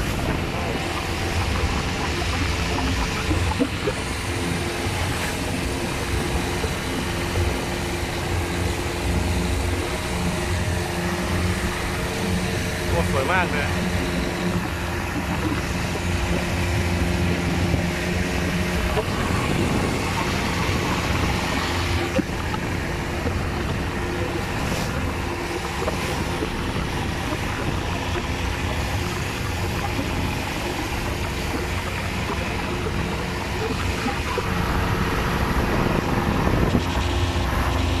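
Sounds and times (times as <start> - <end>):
boat engine running: 0.0 - 38.0
wind and water rushing: 0.0 - 38.0.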